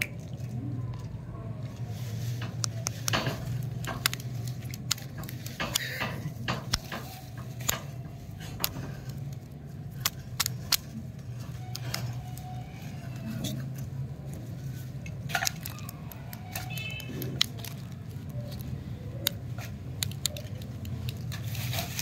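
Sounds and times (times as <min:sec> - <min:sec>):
lollipop wrappers crinkling: 0:01.6 - 0:22.0.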